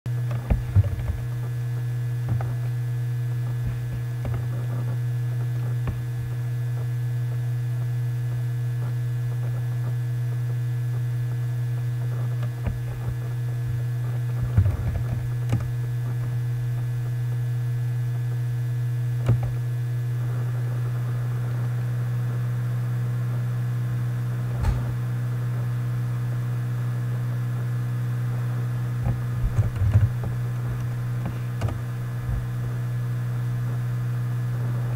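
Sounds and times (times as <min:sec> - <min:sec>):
electrical mains hum: 0:00.1 - 0:34.9.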